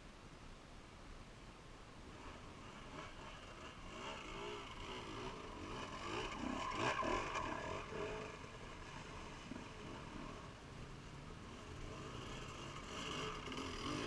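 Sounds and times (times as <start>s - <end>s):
dirt bike engine passing: 2.0s - 14.0s.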